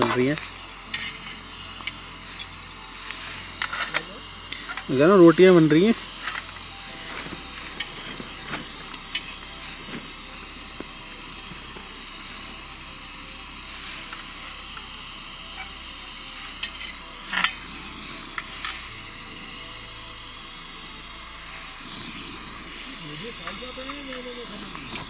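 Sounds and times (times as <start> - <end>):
gas stove hissing: 0.0 - 25.0.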